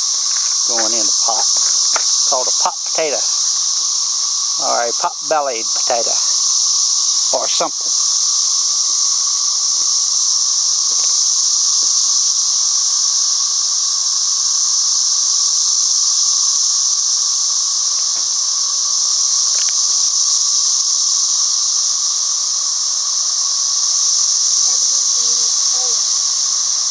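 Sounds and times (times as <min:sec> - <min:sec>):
cicadas buzzing: 0:00.0 - 0:26.9.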